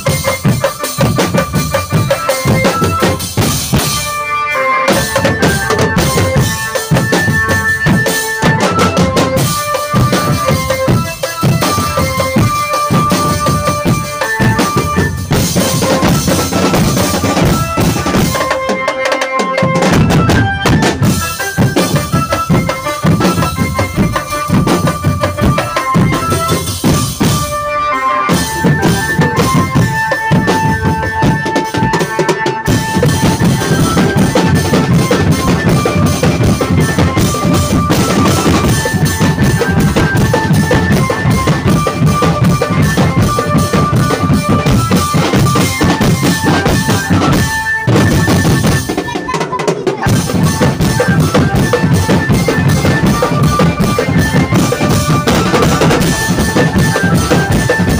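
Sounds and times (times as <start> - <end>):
bass and snare drumming: 0.0 - 4.2, 4.8 - 27.6, 28.3 - 57.9
drumband music: 0.0 - 57.9
melody line: 1.5 - 57.9.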